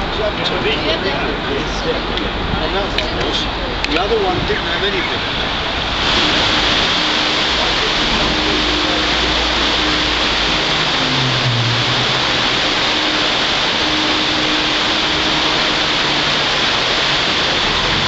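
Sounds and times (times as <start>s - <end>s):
suspended train rushing: 0.0s - 18.0s.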